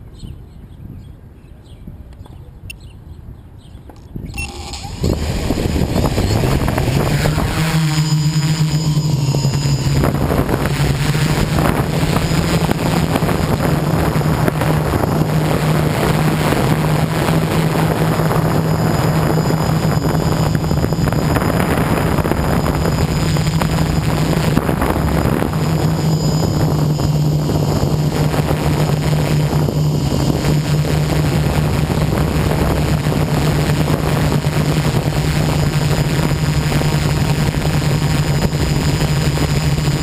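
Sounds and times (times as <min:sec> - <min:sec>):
drone motors humming: 0:04.3 - 0:40.0.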